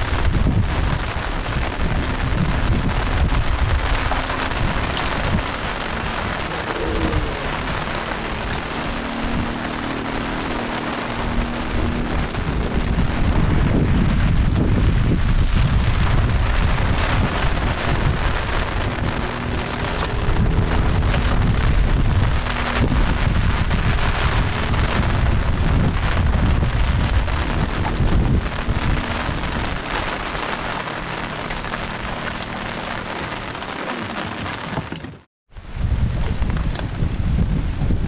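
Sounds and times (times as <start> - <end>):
wind buffeting microphone: 0.0 - 35.0, 35.6 - 38.0.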